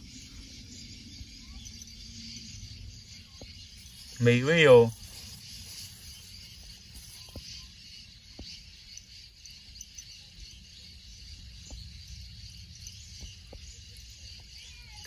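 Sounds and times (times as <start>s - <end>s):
high insect chirring: 0.0s - 15.0s.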